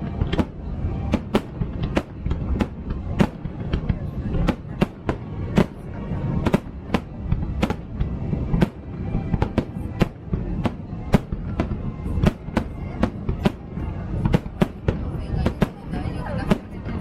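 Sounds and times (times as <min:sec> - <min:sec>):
low rumble of explosions: 0:00.0 - 0:17.0.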